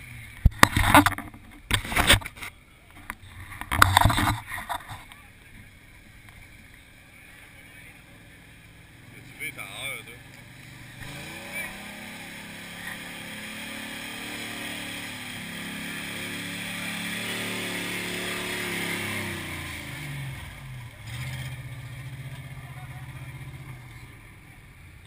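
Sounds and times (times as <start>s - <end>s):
truck engine revving: 3.1s - 25.0s.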